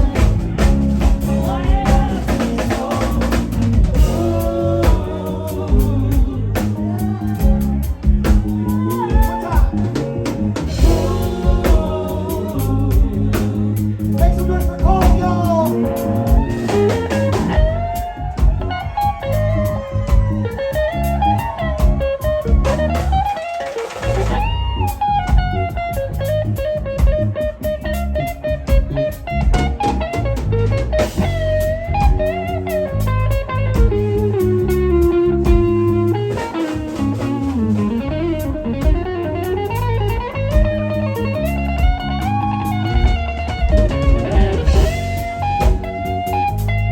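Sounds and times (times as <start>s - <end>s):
bass guitar: 0.0s - 46.9s
drum kit: 0.0s - 46.9s
electric guitar lead: 0.0s - 46.9s.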